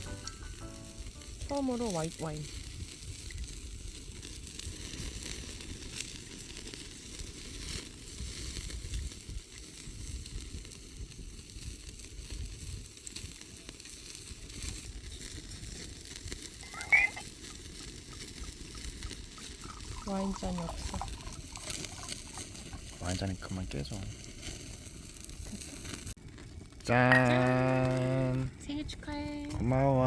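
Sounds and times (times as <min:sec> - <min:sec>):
food sizzling in frying: 0:00.0 - 0:26.2, 0:26.8 - 0:28.5.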